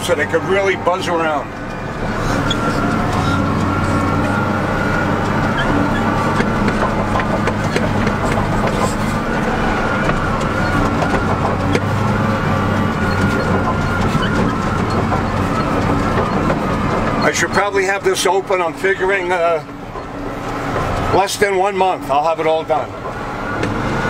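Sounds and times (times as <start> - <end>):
loader diesel engine running: 0.0 - 24.0
small rattles and knocks: 1.5 - 24.0.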